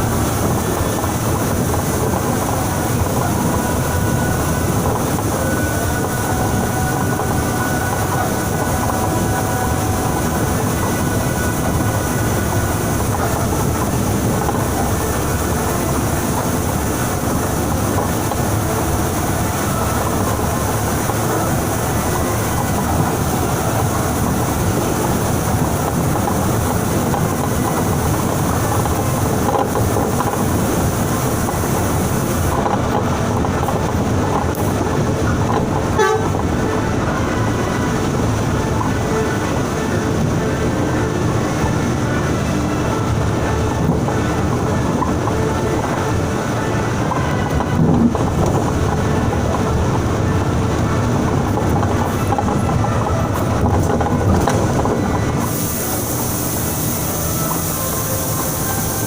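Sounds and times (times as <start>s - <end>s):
bus engine and tyre noise: 0.0s - 59.0s
heavy rain: 0.0s - 59.0s.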